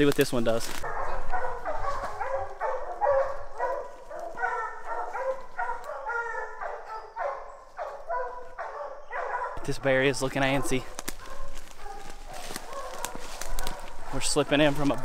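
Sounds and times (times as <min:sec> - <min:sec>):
hounds baying: 0:00.6 - 0:15.0.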